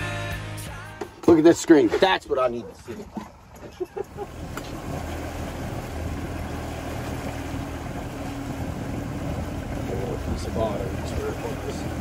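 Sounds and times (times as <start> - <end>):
motorboat engine humming: 1.0 - 12.0.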